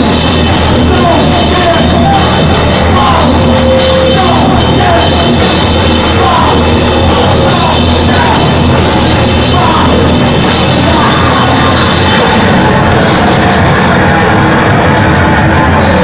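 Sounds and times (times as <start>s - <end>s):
loud rock music with drums: 0.0s - 16.0s.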